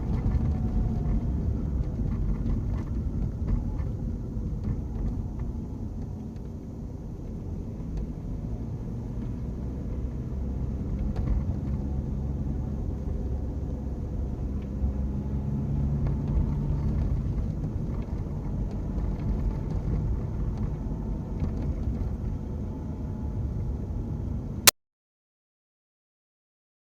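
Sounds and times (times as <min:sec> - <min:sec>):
road and drivetrain rumble: 0:00.0 - 0:24.7.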